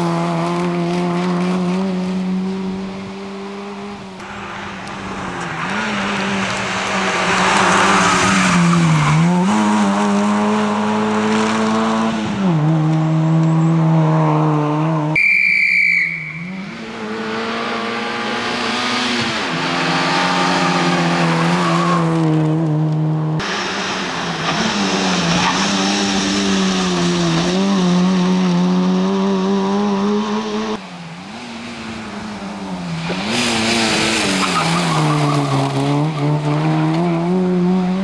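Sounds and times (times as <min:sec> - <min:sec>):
rally car engine revving: 0:00.0 - 0:15.2, 0:16.3 - 0:38.0.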